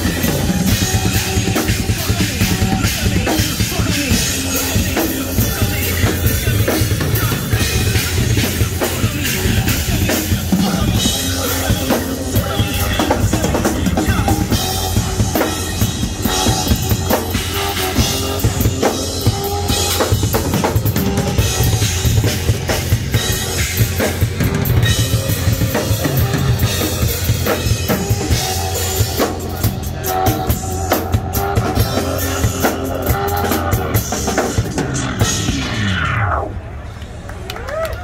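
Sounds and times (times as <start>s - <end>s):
drum kits playing: 0.0s - 36.0s.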